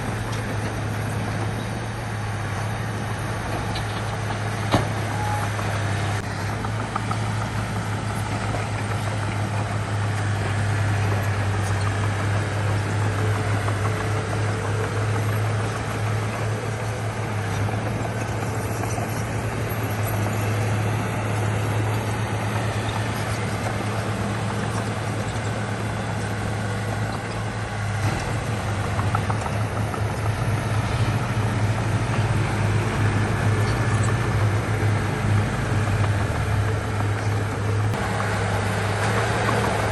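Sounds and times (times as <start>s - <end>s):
heavy machinery diesel engine running: 0.0s - 39.9s.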